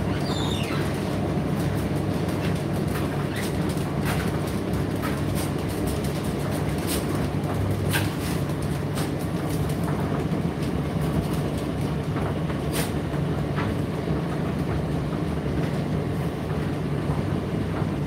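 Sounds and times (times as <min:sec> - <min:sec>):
dryer drum rumble: 0:00.0 - 0:18.0
tumble dryer motor hum: 0:00.0 - 0:18.0.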